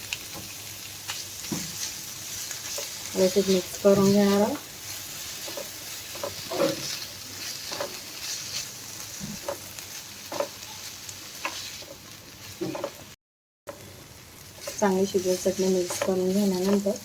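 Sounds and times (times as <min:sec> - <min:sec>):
vegetables sizzling in oil: 0:00.0 - 0:17.0
spoon scraping pan: 0:01.4 - 0:13.0, 0:14.6 - 0:17.0.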